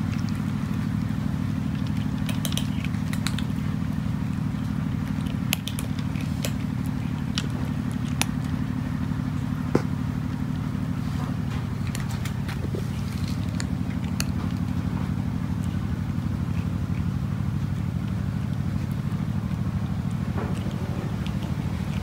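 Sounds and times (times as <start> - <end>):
cat crunching dry kibble: 0.0 - 22.0
low mechanical drone: 0.0 - 22.0.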